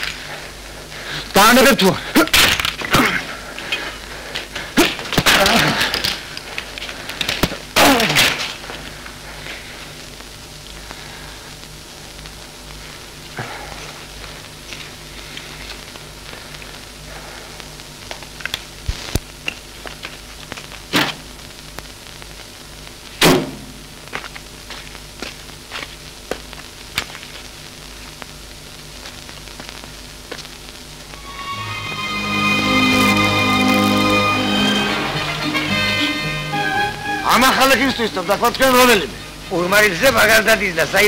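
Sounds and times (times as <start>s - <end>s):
film soundtrack hiss and hum: 0.0s - 41.0s.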